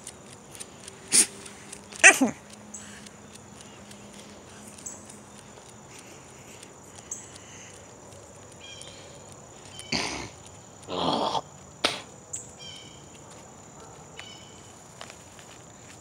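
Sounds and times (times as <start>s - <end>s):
scuffing noises: 0.0s - 10.9s, 11.5s - 16.0s
insect drone: 0.0s - 16.0s.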